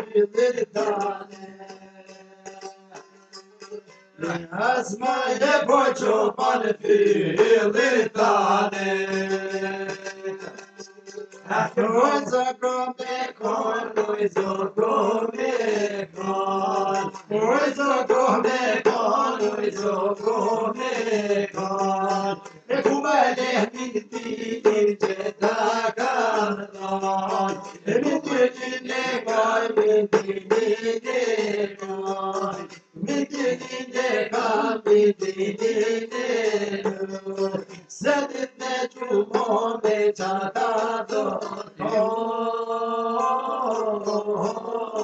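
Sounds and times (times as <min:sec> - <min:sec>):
men singing folk song: 0:00.0 - 0:03.1, 0:04.2 - 0:45.0
strummed long-necked lute: 0:00.0 - 0:45.0.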